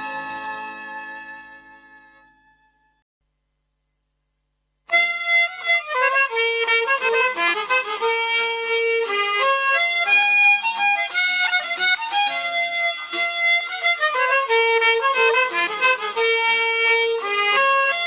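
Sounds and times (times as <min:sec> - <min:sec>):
fiddle playing a waltz: 0:00.0 - 0:02.2, 0:04.9 - 0:18.0.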